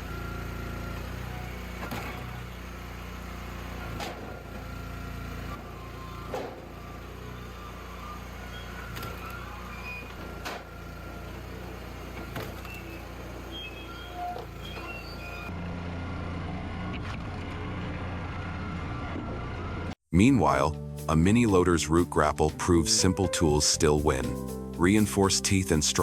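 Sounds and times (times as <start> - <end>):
log splitter engine running: 0.0 - 26.0.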